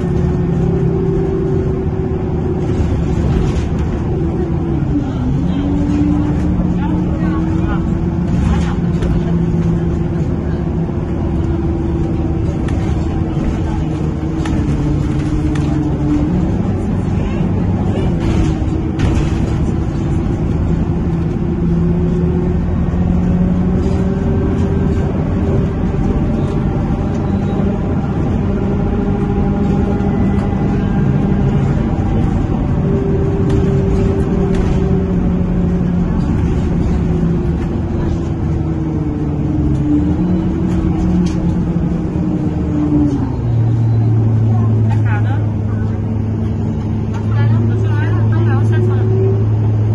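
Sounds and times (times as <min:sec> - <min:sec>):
bus engine drone: 0:00.0 - 0:49.9.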